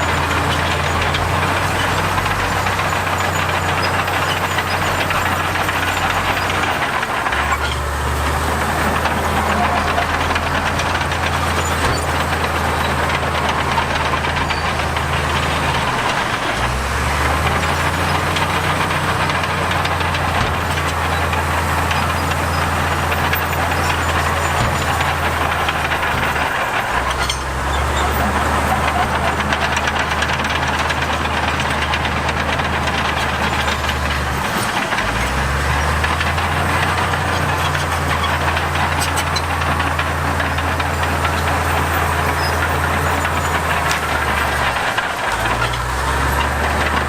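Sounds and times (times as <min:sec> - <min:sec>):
diesel engine running under load: 0:00.0 - 0:47.0.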